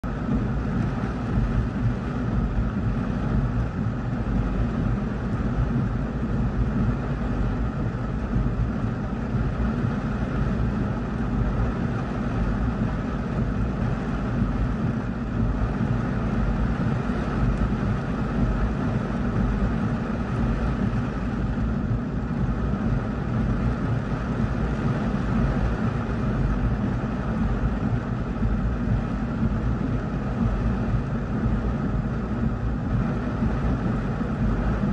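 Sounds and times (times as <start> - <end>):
heavy rain on car roof: 0.0 - 34.9.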